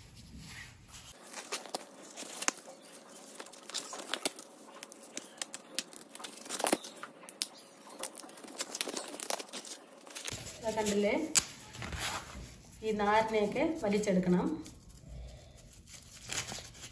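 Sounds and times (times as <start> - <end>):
corn husks tearing: 1.1 - 14.0, 14.6 - 16.9.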